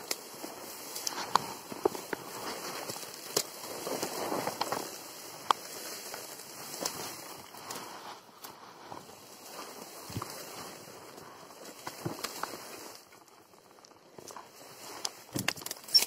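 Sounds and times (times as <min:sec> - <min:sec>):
dry reeds rustling and crackling: 0:00.0 - 0:16.0.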